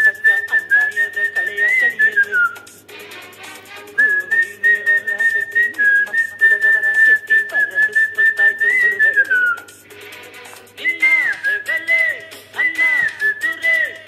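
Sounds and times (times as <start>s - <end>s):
man whistling a melody: 0.0s - 2.8s, 3.9s - 9.8s, 10.8s - 14.0s.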